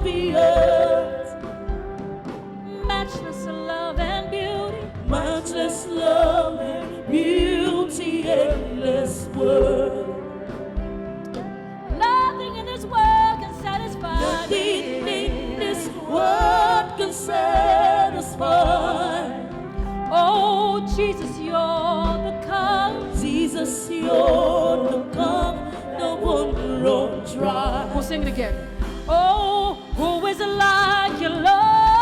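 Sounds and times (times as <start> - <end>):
singer with wide vibrato: 0.0 - 11.2, 11.8 - 32.0
band accompaniment: 0.0 - 32.0.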